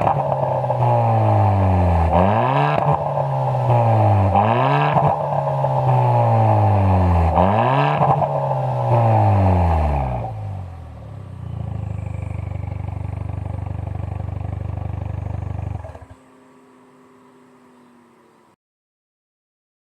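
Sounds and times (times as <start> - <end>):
car engine idling: 0.0 - 18.6
car engine revving: 0.0 - 18.6.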